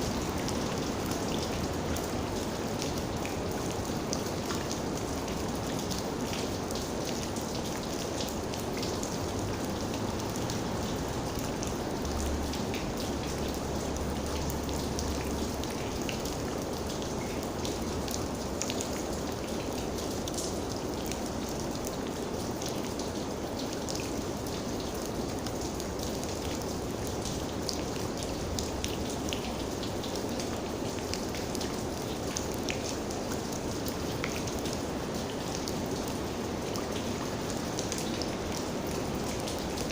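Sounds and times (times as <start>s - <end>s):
raindrops pattering: 0.0s - 39.9s.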